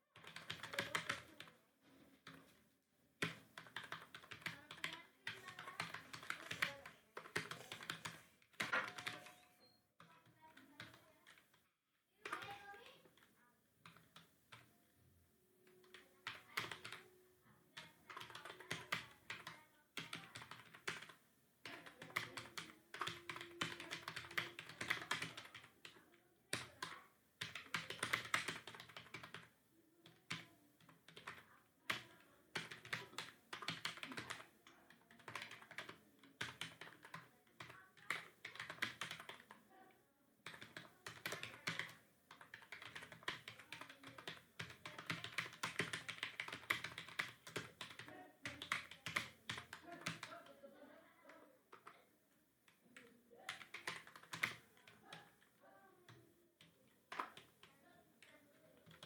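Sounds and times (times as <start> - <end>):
typing on computer keyboard: 0.2 - 1.6, 3.2 - 11.6, 12.2 - 14.7, 15.6 - 17.2, 17.8 - 39.7, 40.4 - 50.6, 51.3 - 52.0, 52.7 - 59.0.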